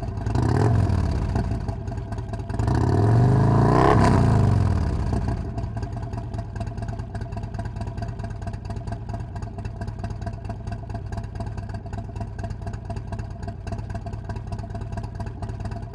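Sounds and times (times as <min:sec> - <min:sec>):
motorcycle engine idling: 0:00.0 - 0:03.6, 0:04.4 - 0:15.9.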